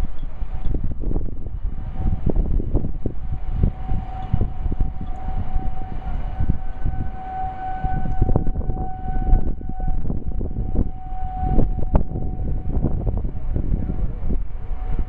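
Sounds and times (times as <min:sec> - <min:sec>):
distant warning sirens: 0:00.0 - 0:15.0
wind rumble on microphone: 0:00.0 - 0:15.0.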